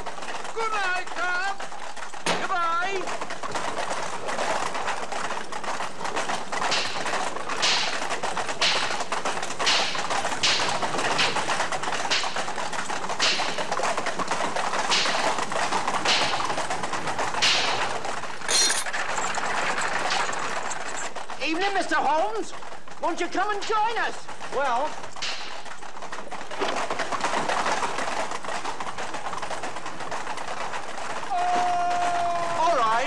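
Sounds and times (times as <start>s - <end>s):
carriage wheels on wet street: 0.0s - 33.0s
hooves clopping: 0.0s - 33.0s.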